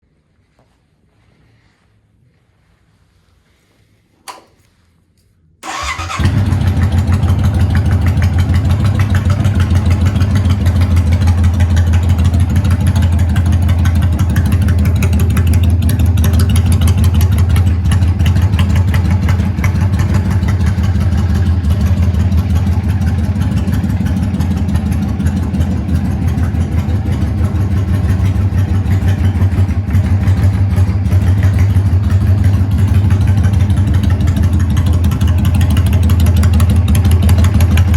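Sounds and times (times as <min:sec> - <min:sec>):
motorcycle engine starting and idling: 0:05.6 - 0:37.9.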